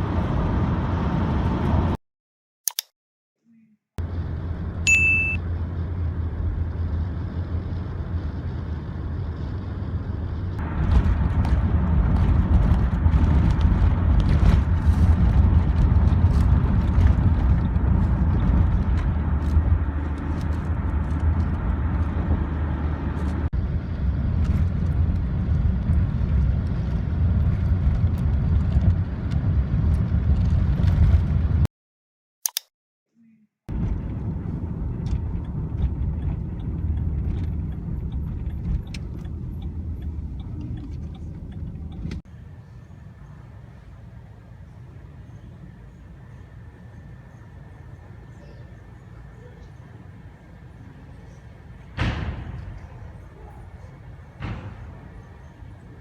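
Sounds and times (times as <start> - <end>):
road and engine rumble: 0.0 - 2.0, 4.0 - 31.7, 33.7 - 56.0.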